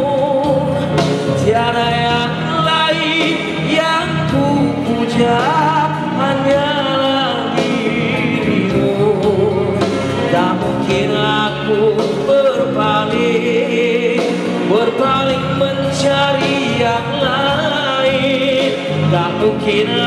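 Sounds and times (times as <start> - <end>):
backing music: 0.0 - 20.0
man singing rock ballad: 0.0 - 20.0.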